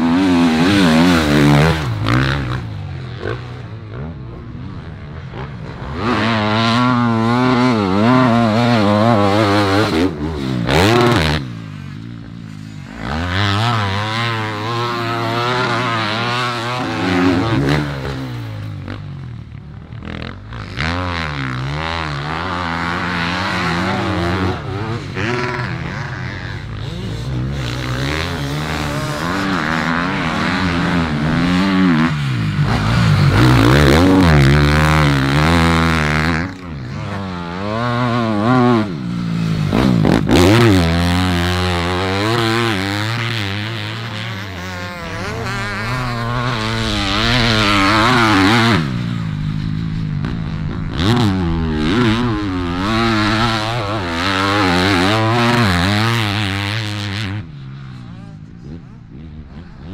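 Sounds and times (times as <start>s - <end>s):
motocross bike engines revving: 0.0s - 59.9s.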